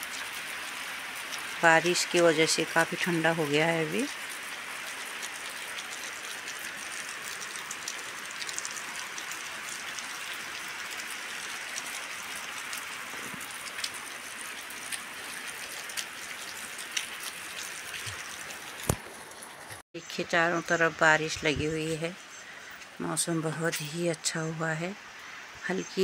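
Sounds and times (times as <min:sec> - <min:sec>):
raindrops ticking close by: 0:00.0 - 0:24.4
rain hiss: 0:00.0 - 0:26.0.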